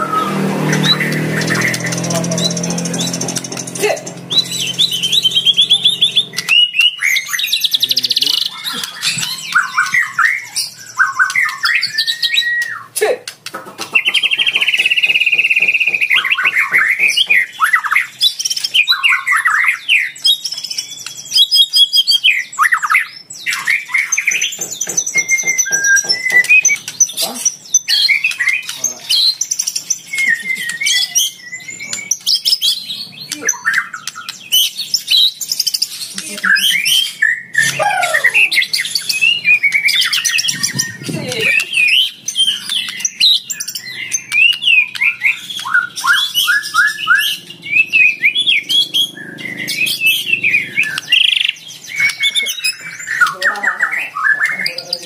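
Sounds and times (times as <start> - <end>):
bird singing whistled song: 0.0 - 13.0, 14.0 - 55.0.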